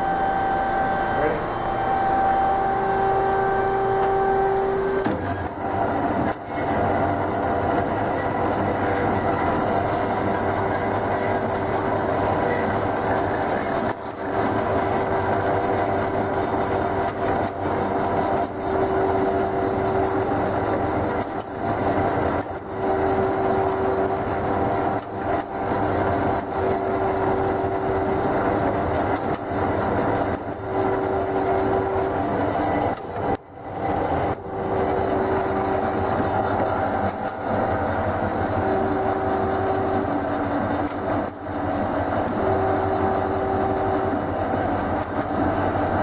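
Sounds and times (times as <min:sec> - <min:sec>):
band saw running: 0:00.0 - 0:46.0.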